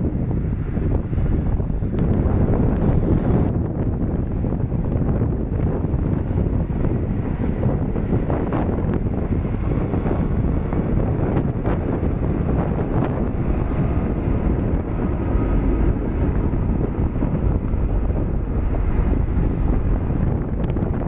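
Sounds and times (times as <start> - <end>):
faint engine whine: 0.0 - 21.0
jet engines rumbling: 0.0 - 21.0
wind buffeting microphone: 0.0 - 21.0.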